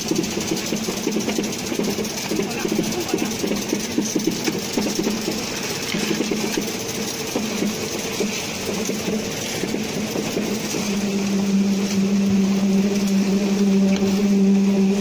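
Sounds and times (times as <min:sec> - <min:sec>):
truck engine pulsing hum: 0:00.0 - 0:15.0.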